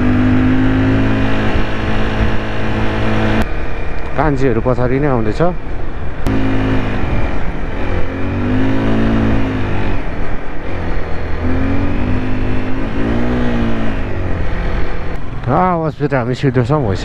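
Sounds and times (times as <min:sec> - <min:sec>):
road and wind noise: 0:00.0 - 0:17.0
vehicle engine running: 0:00.0 - 0:17.0.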